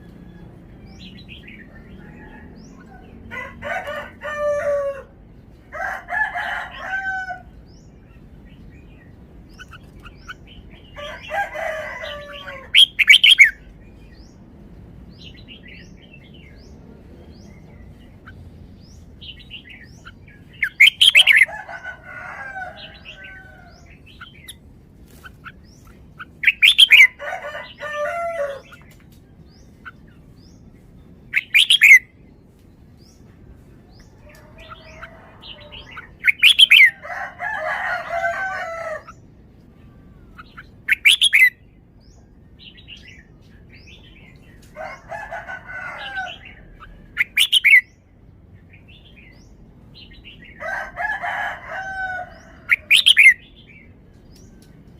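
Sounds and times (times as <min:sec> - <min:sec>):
bird singing warbled phrases: 0:00.0 - 0:54.9.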